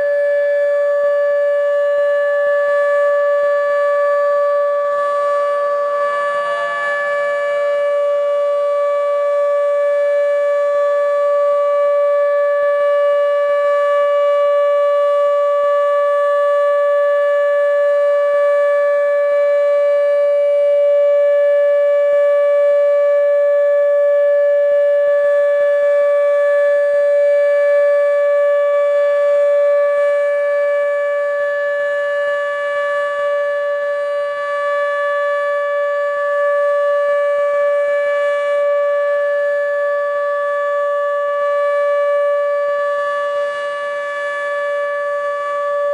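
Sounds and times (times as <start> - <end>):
steady warning siren tone: 0.0 - 45.9.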